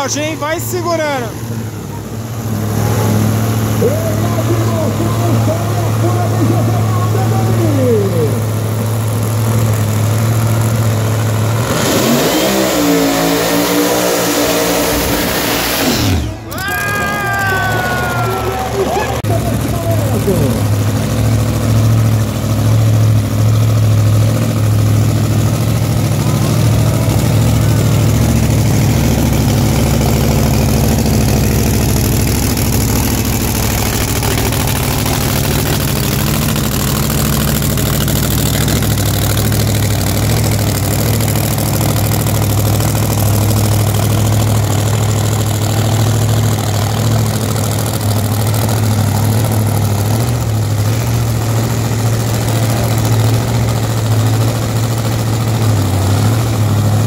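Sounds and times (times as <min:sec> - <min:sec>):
car engine idling loudly: 0:00.0 - 0:57.0.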